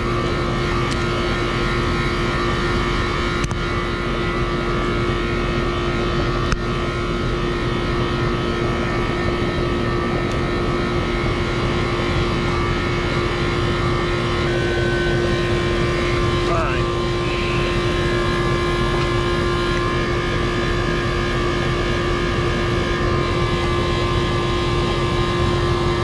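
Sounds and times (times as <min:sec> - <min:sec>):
air conditioner humming: 0:00.0 - 0:26.0.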